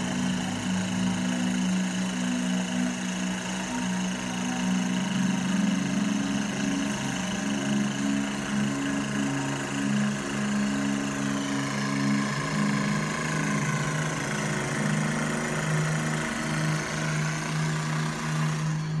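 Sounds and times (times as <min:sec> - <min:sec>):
massage gun motor buzzing: 0:00.0 - 0:19.0.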